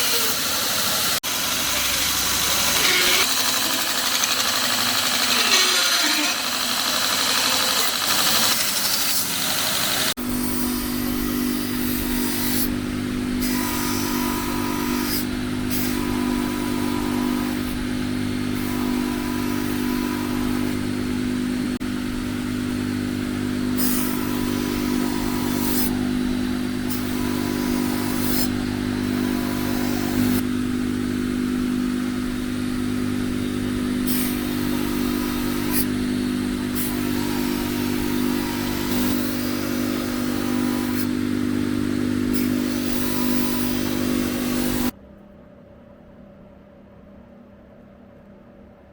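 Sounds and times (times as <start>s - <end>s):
power tool motor humming: 0.0s - 44.9s.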